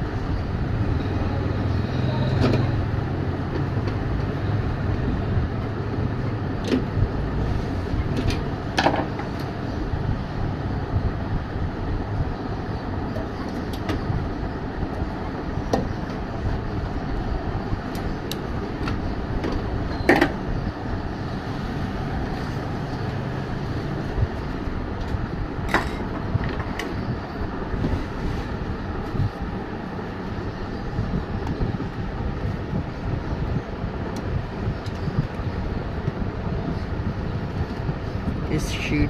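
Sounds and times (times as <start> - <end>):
steady background rumble: 0.0 - 39.0.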